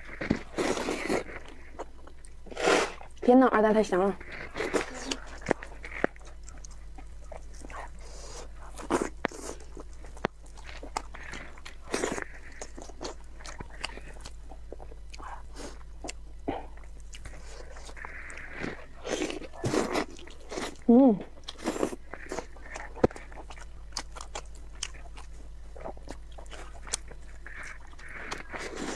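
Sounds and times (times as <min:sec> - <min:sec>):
wet chewing: 0:00.0 - 0:03.3, 0:03.9 - 0:28.9
steady low hum: 0:00.0 - 0:28.9.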